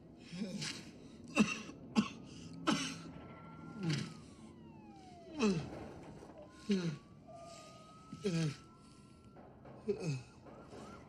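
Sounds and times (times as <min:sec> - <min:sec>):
distant police siren wailing: 0:00.0 - 0:11.0.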